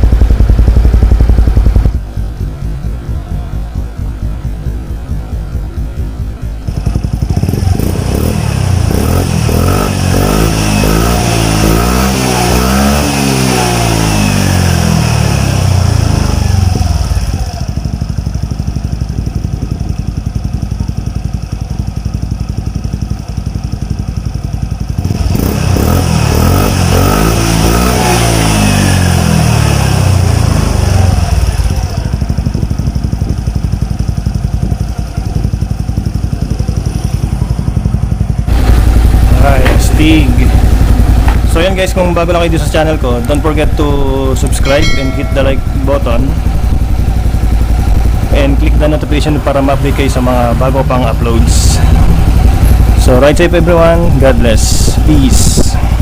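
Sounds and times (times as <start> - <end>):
scooter engine revving: 0.0 - 56.0.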